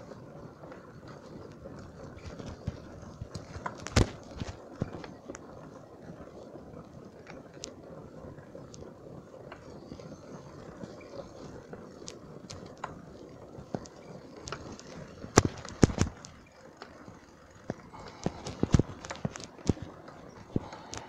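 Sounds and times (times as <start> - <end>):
bicycle rolling on dirt road: 0.0 - 21.0
bike clicks and rattles: 0.0 - 21.0.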